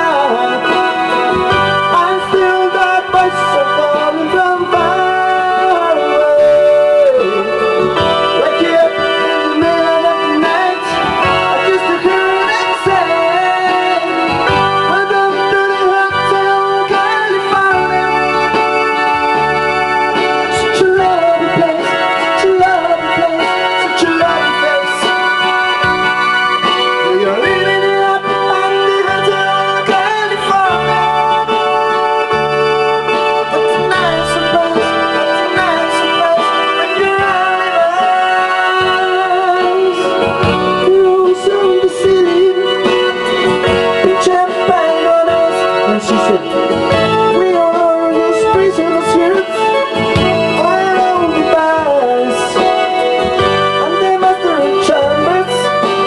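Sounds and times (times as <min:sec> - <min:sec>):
organ-style keyboard chords: 0:00.0 - 0:56.0
pitch-bending keyboard melody: 0:00.0 - 0:56.0.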